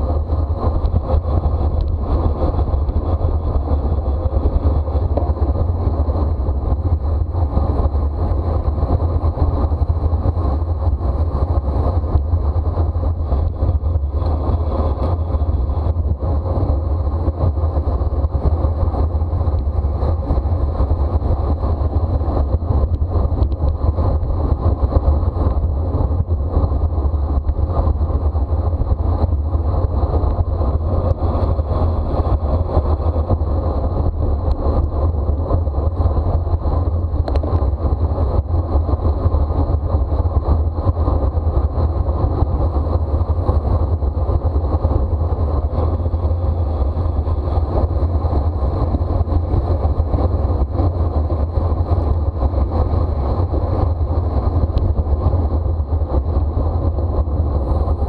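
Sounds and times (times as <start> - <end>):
bicycle tyre and drivetrain noise: 0.0 - 58.0
wind on microphone: 0.0 - 58.0.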